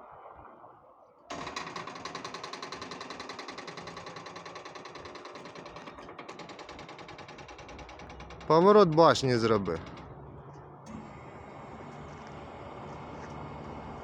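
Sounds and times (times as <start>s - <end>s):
hydraulic pump motor whining: 1.3s - 14.0s.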